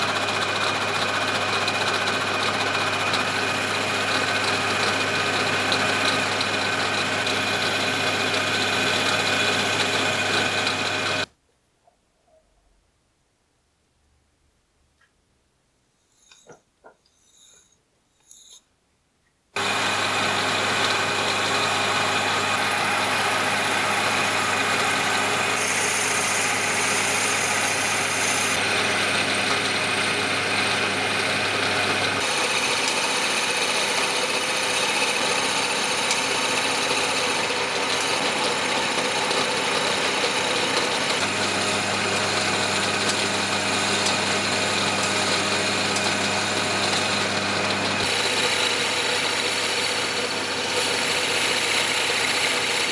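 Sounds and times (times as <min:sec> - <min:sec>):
cutting tool shaving wood: 0:00.0 - 0:11.3, 0:19.6 - 0:52.9
lathe motor humming: 0:00.0 - 0:11.3, 0:19.6 - 0:52.9.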